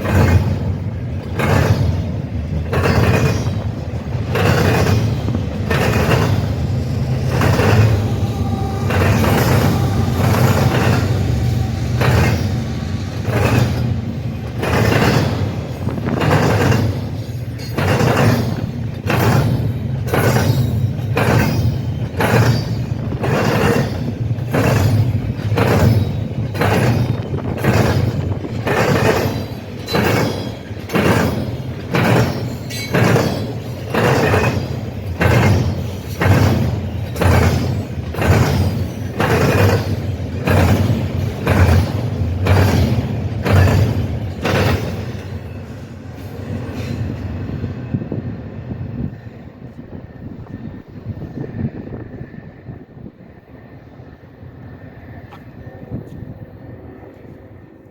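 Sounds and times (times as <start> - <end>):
train wheels clattering over rails: 0.0 - 52.7
low rumble of passing train: 0.0 - 57.9.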